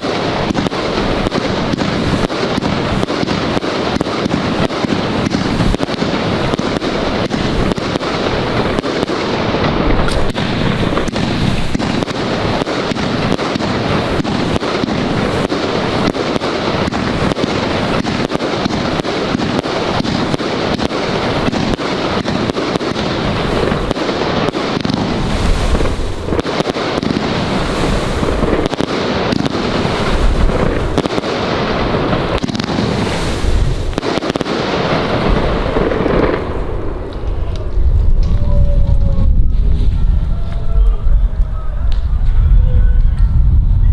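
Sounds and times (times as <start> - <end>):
firework cake launches and bursts: 0.0 - 41.2.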